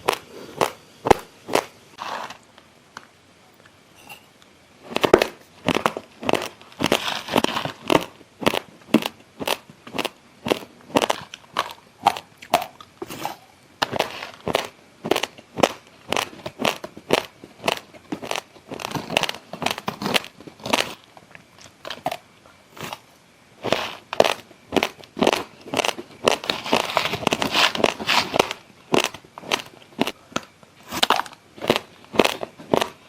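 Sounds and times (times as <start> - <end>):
chewing raw rice: 5.6 - 22.2, 22.8 - 33.0.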